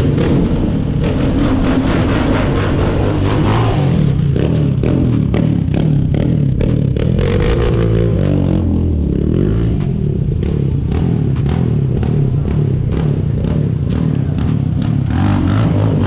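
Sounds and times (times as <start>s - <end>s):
sharp clicks: 0.0s - 14.6s
motorcycle engine running: 0.0s - 16.0s.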